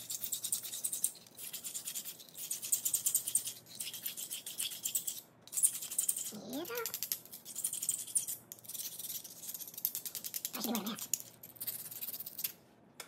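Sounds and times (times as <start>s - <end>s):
file rasping on glass: 0.0s - 12.4s.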